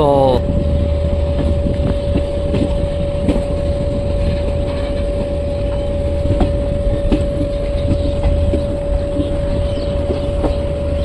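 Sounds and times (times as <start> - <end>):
constant high whine: 0.0 - 11.0
train wheels rumbling on rails: 0.0 - 11.0.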